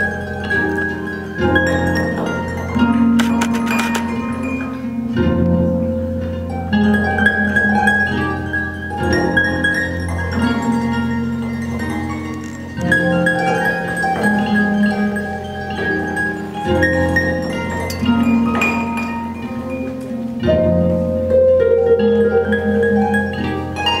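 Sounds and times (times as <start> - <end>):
pedal harp played solo: 0.0 - 24.0.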